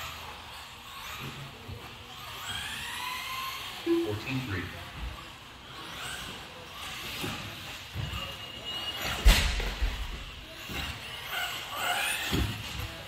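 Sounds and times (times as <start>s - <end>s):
electric toy buggy running: 0.0s - 13.0s.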